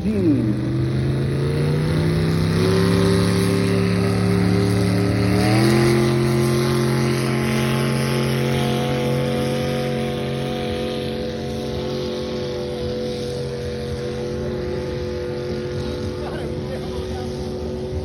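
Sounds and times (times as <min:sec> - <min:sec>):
tractor engine at high revs: 0:00.0 - 0:18.0.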